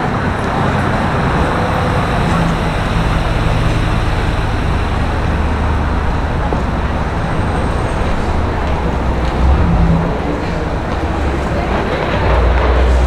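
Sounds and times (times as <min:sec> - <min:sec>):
road noise: 0:00.0 - 0:13.0
vehicle engines humming: 0:00.0 - 0:13.0.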